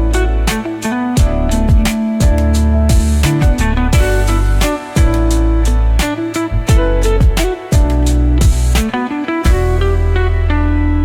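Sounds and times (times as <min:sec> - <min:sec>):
sustained bass: 0:00.0 - 0:08.9, 0:09.5 - 0:11.0
plucked guitar notes: 0:00.0 - 0:11.0.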